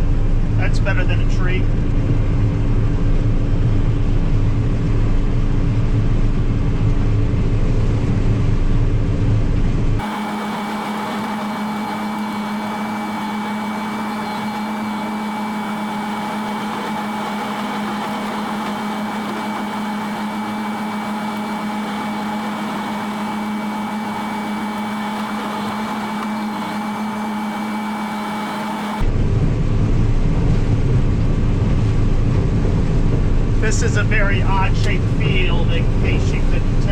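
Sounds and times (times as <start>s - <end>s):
combine harvester hum and whine: 0.0s - 36.9s
deep machine rumble: 0.0s - 36.9s.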